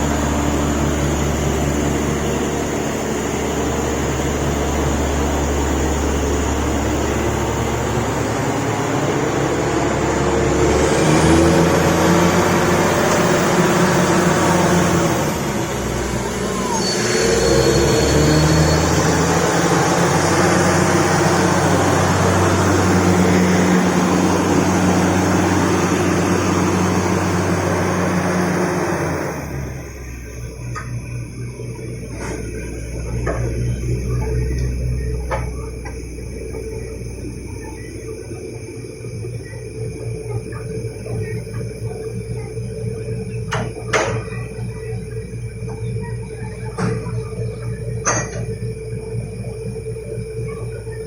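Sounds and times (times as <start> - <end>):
air compressor: 0.0 - 51.0
drilling rig running: 0.0 - 51.0
truck engine: 0.0 - 51.0.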